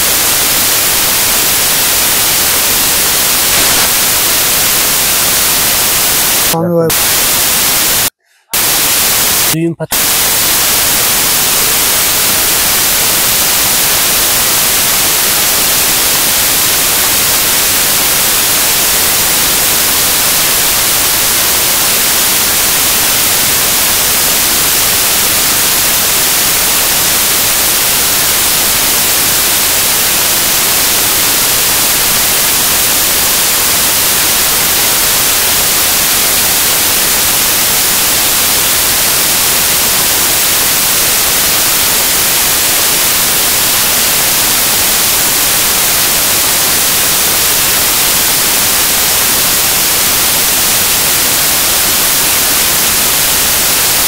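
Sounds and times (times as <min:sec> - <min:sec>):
loud static hiss: 0:00.0 - 0:54.0.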